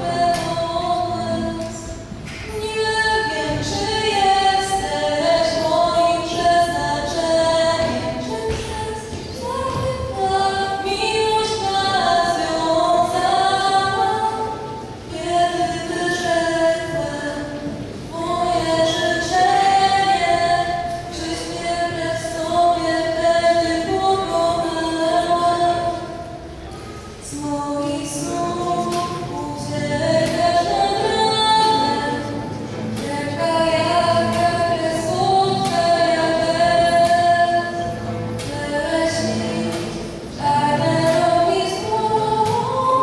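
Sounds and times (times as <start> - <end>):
woman singing: 0.0 - 26.5, 27.2 - 43.0
acoustic guitar: 0.0 - 43.0.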